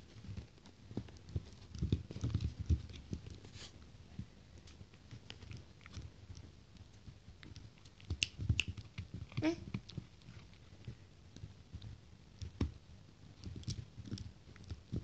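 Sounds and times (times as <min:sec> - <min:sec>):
dogs moving on a bed: 0:00.0 - 0:12.8.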